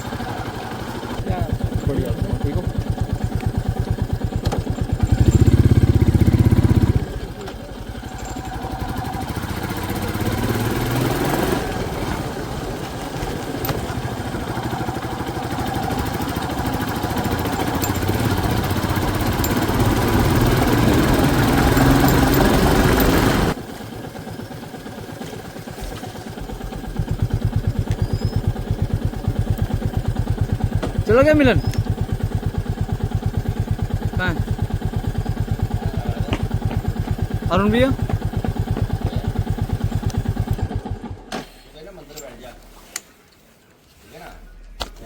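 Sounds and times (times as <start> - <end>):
motorcycle engine: 0.0 - 41.4.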